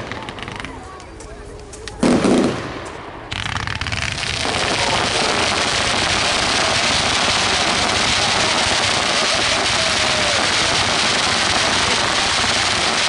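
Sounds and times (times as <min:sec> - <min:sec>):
fireworks crackling: 0:00.0 - 0:13.0
firework bang: 0:02.0 - 0:13.0.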